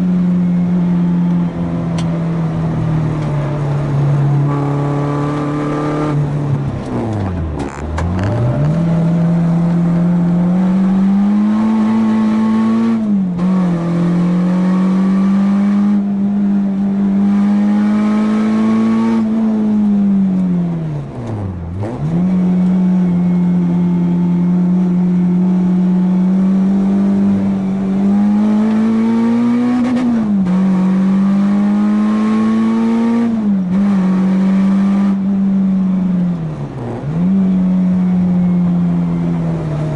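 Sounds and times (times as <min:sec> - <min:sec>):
car engine revving and shifting gears: 0:00.0 - 0:39.9.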